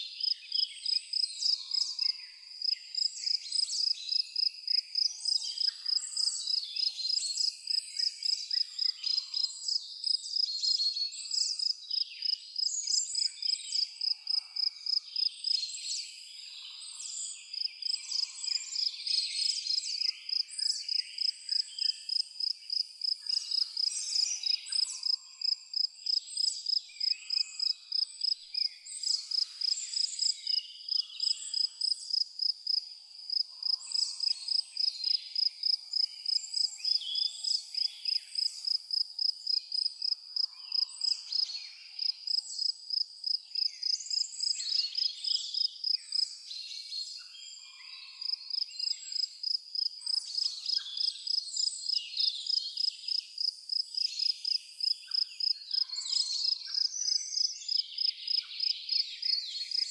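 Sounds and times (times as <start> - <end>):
cricket chirping: 0.0 - 46.9, 47.8 - 59.9
birds chirping and twittering: 0.0 - 53.4, 54.0 - 59.9.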